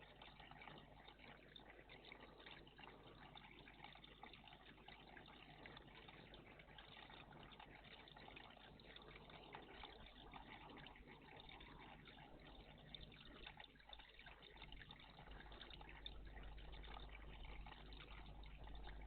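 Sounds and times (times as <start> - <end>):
low steady hum: 0.0 - 19.0
water trickling: 0.0 - 19.0.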